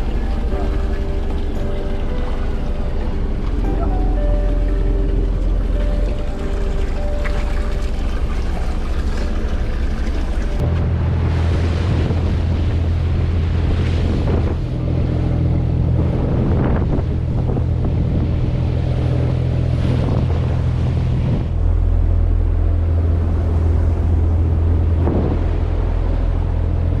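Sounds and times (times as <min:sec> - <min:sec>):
boat engine running: 0:00.0 - 0:27.0
wind on microphone: 0:00.0 - 0:27.0.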